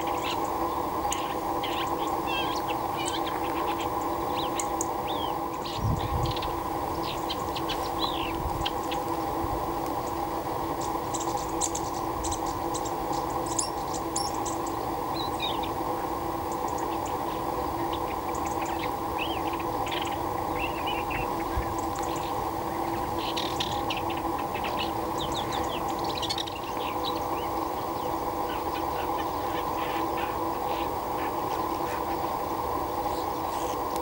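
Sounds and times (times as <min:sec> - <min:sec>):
small birds chirping: 0:00.0 - 0:33.9
steady tonal hum: 0:00.0 - 0:34.0.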